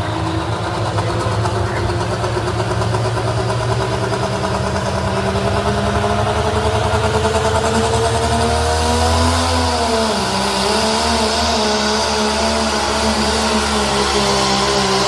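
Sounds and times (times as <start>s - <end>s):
diesel truck engine running hard: 0.0s - 15.0s.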